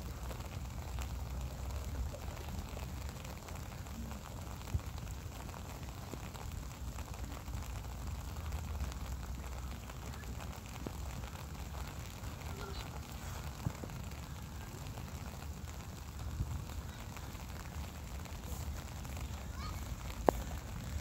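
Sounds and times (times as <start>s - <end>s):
light rain hissing: 0.0s - 21.0s
rain drops ticking: 0.0s - 21.0s.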